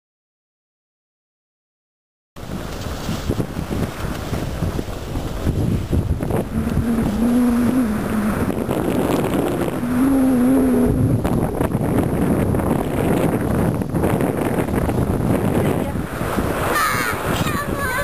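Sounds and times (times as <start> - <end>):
wind rushing over microphone: 2.4 - 18.0.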